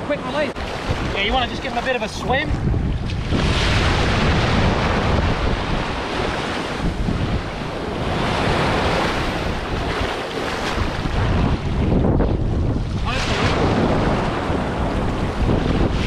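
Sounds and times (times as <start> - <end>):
surf washing over sand: 0.0 - 16.0.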